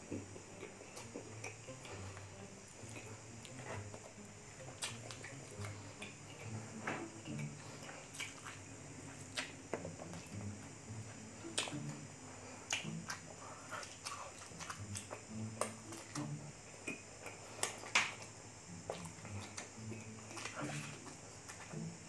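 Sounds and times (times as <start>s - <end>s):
sharp mouth clicks: 0.0s - 6.6s, 7.2s - 10.6s, 11.4s - 12.0s, 12.6s - 21.8s
wet chewing and lip-smacking: 0.0s - 22.0s.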